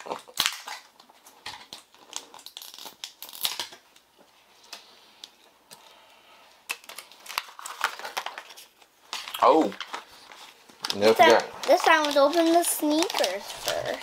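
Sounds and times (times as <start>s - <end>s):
plastic packaging rustling and clicking: 0.0s - 6.0s, 6.6s - 14.0s.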